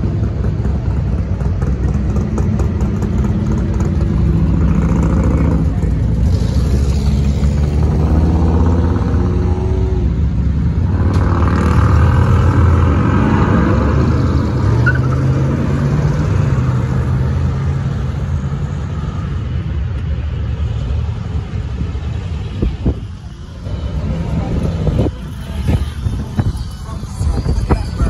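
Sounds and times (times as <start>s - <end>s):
car engines and exhausts: 0.0s - 28.0s.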